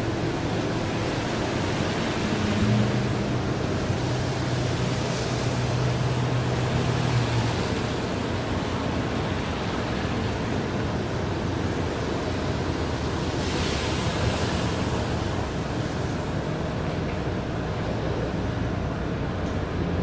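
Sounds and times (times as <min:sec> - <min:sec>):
boat diesel engine running: 0:00.0 - 0:20.0
wind and water hiss: 0:00.0 - 0:20.0.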